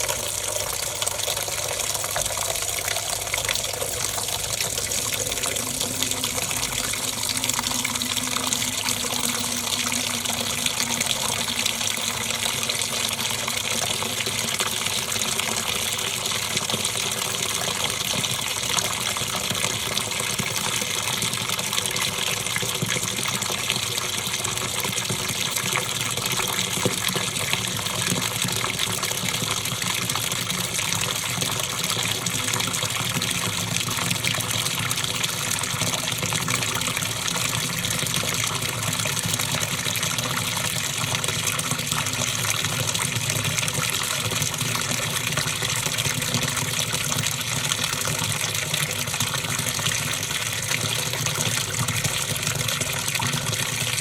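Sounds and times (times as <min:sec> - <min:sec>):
washing machine water churning: 0:00.0 - 0:54.0.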